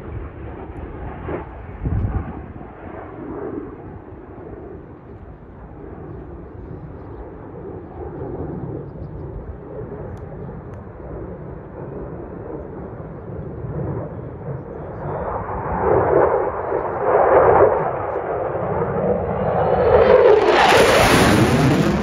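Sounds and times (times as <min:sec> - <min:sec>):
fighter jet engine rumbling: 0:00.0 - 0:22.0.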